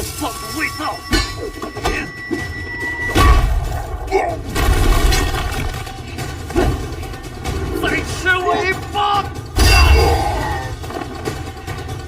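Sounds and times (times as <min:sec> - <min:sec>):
orchestral action music: 0:00.0 - 0:12.0.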